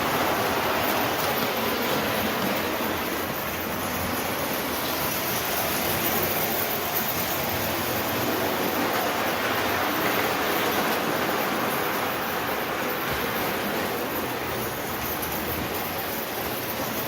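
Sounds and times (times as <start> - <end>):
toy train running on track: 0.0 - 17.0.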